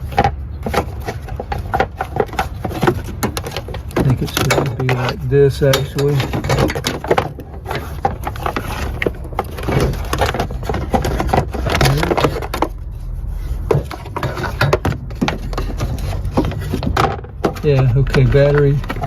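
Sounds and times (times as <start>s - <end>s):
hard plastic knocking and scraping: 0.0s - 19.0s
steady low rumble: 0.0s - 19.0s.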